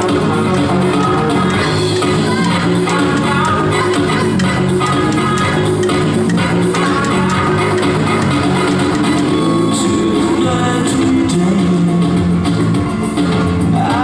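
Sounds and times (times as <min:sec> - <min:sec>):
loud upbeat dance music: 0:00.0 - 0:14.0.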